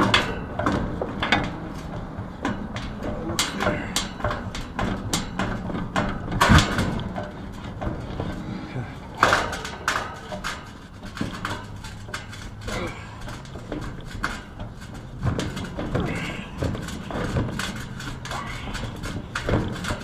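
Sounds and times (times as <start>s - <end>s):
hand tools clicking on metal: 0.0s - 20.0s.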